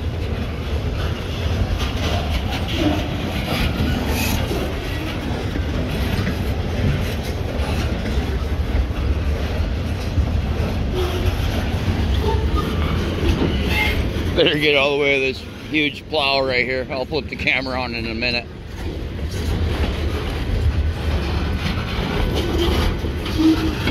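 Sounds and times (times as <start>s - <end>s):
freight train rumbling past: 0.0s - 23.9s
wheel clacks over rail joints: 0.0s - 23.9s.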